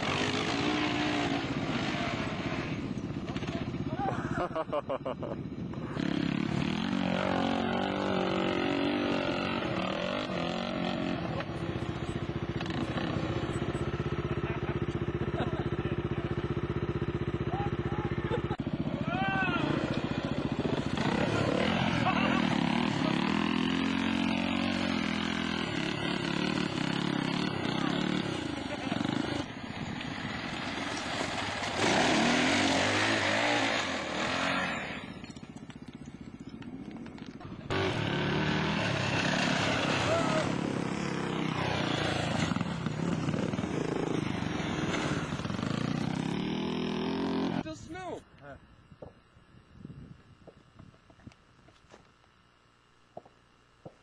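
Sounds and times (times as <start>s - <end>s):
dirt bike engine revving: 0.0s - 47.8s.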